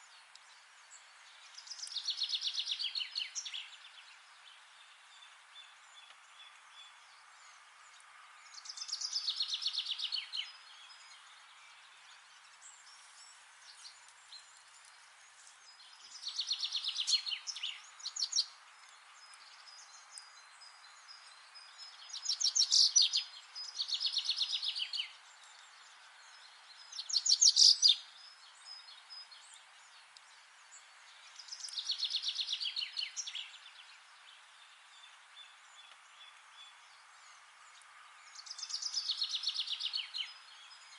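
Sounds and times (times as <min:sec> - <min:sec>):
background hiss: 0:00.0 - 0:40.9
songbirds singing: 0:00.0 - 0:40.9.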